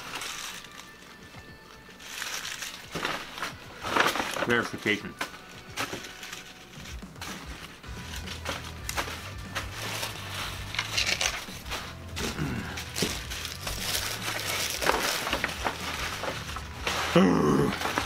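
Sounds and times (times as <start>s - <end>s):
paper wrappers crinkling: 0.0s - 18.0s.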